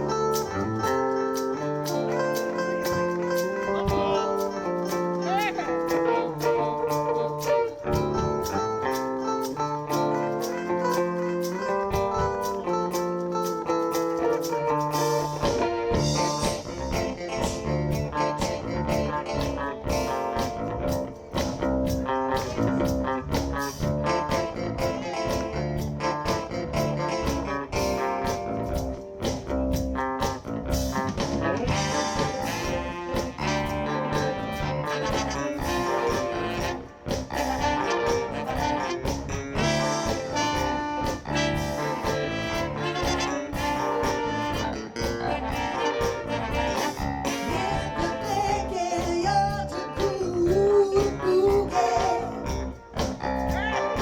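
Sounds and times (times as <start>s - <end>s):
soul band playing: 0.0s - 54.0s.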